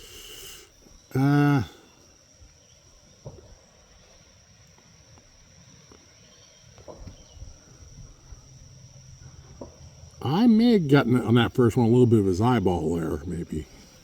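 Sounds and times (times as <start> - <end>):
crickets droning: 0.0 - 14.0.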